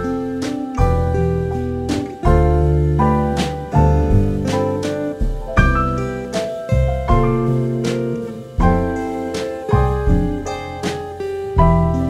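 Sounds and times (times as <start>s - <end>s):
electric piano chords: 0.0s - 12.0s
light tap on the beat: 1.9s - 12.0s.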